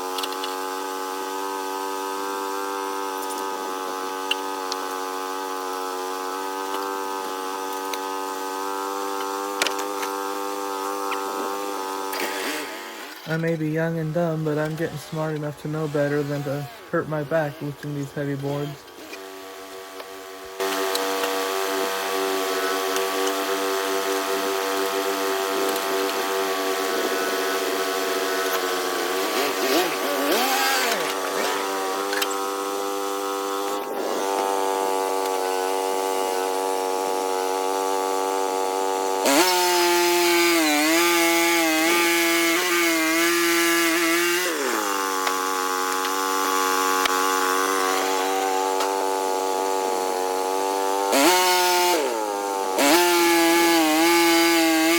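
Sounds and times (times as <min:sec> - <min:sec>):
saw blade cutting log: 0:00.0 - 0:54.9
sawmill engine running: 0:00.0 - 0:54.9.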